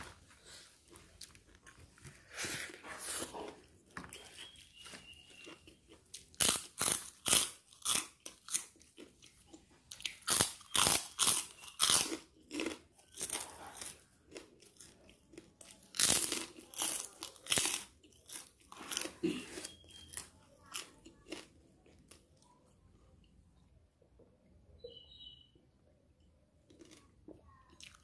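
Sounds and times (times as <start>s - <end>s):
loud crunchy chewing: 0.1s - 22.2s, 26.7s - 28.0s.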